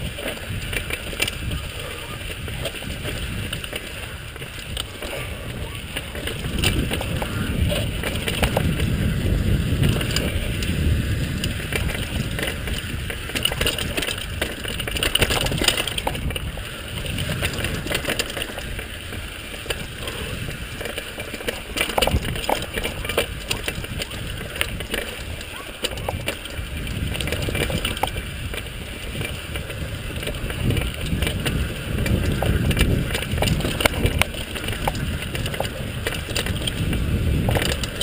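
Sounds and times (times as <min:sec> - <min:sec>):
bike rattling over rocks: 0:00.0 - 0:38.0
bike tyres crunching over stones: 0:00.0 - 0:38.0
wind buffeting microphone: 0:00.0 - 0:38.0.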